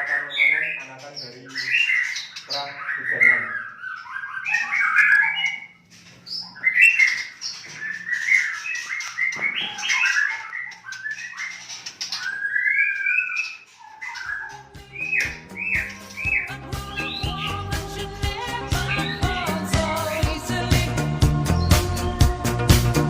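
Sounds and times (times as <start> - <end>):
birds chirping and whistling: 0.0 - 23.0.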